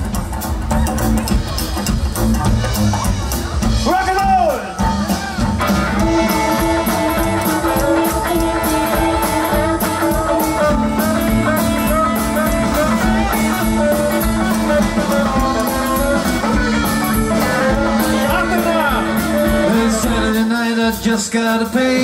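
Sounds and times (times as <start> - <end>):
electric guitar: 0.0 - 22.0
rock and roll band playing: 0.0 - 22.0.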